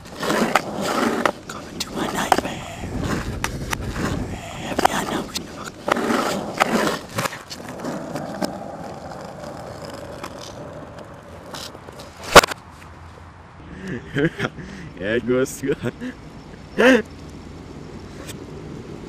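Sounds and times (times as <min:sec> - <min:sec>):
skateboard wheels rolling on asphalt: 0:00.0 - 0:15.2, 0:15.8 - 0:19.0.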